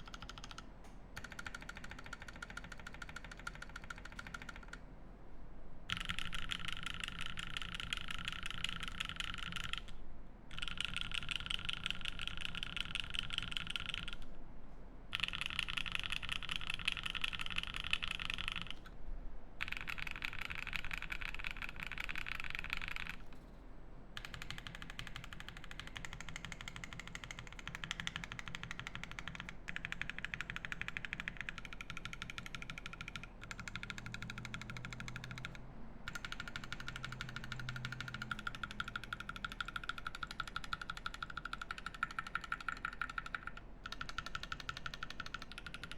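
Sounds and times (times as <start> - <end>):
mechanical keyboard typing clacks: 0.0 - 4.8, 5.9 - 14.3, 15.1 - 18.9, 19.6 - 23.3, 24.2 - 45.9.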